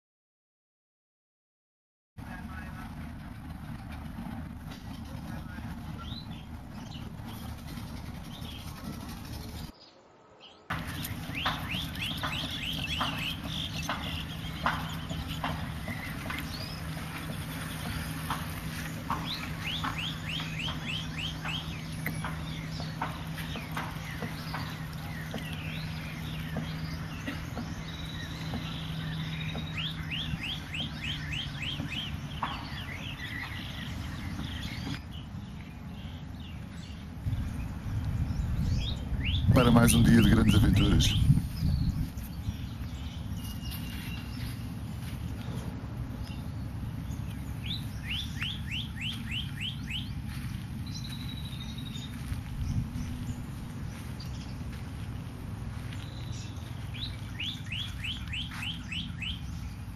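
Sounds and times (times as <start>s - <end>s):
low steady rumble: 2.2s - 9.7s, 10.7s - 59.9s
small birds chirping: 2.2s - 59.9s
low even hum: 10.7s - 59.9s.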